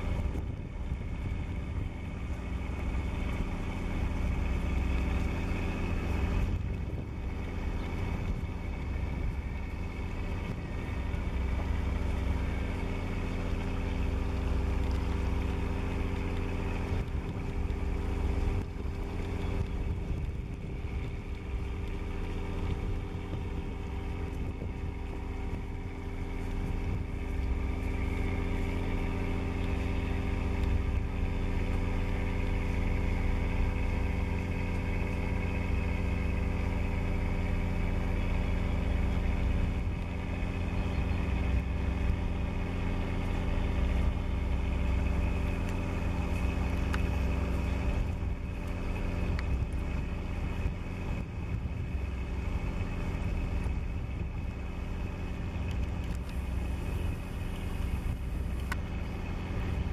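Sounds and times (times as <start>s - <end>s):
ship engine droning: 0.0s - 59.9s.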